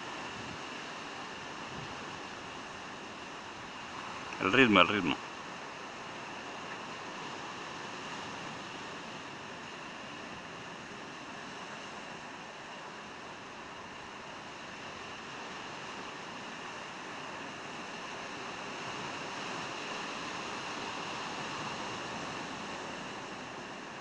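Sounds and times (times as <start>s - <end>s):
sea surf on rocky shore: 0.0s - 24.0s.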